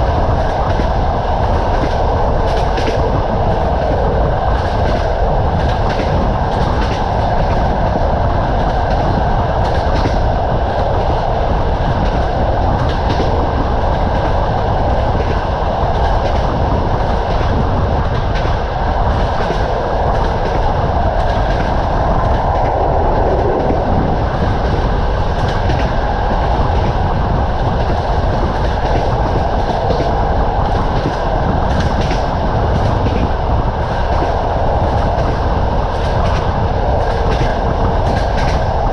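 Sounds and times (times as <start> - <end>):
train carriage rumbling: 0.0 - 38.9.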